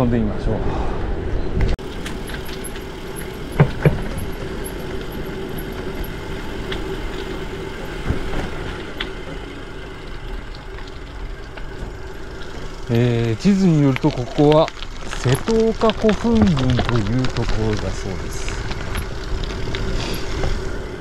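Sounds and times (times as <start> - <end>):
bike rolling on gravel: 1.8 - 21.0.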